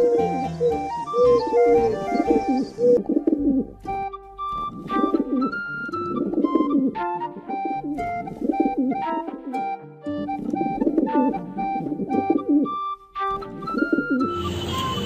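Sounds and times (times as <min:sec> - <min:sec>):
pigeons cooing: 0:00.0 - 0:04.0, 0:04.6 - 0:14.4
background music held notes: 0:00.0 - 0:15.0.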